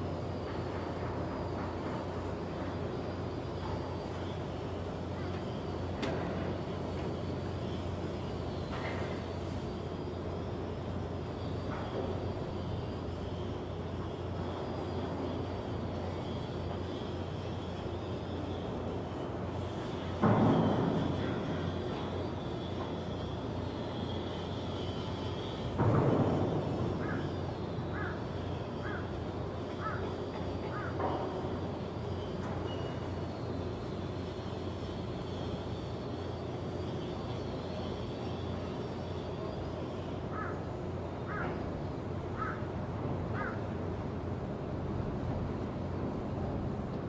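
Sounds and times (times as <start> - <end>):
machinery low hum: 0.0 - 47.0
wavering high whine: 0.0 - 47.0.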